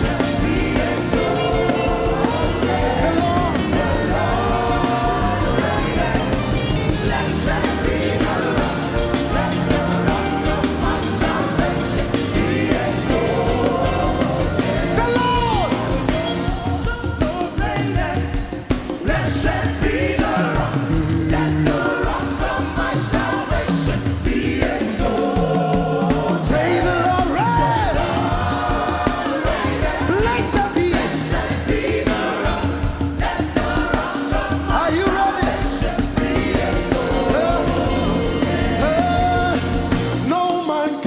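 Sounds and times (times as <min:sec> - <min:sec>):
drums: 0:00.0 - 0:41.0
people singing: 0:00.0 - 0:41.0.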